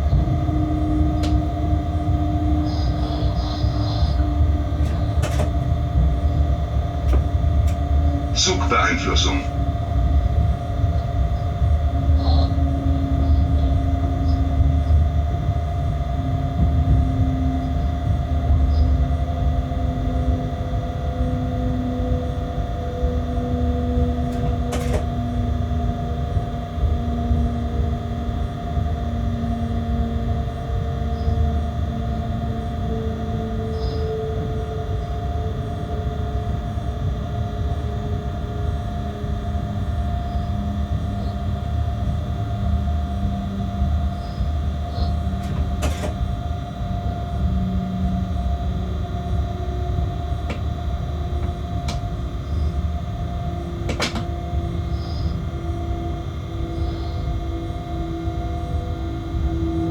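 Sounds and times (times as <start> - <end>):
humming tones: 0.0 - 59.9
train cab rumble: 0.0 - 59.9.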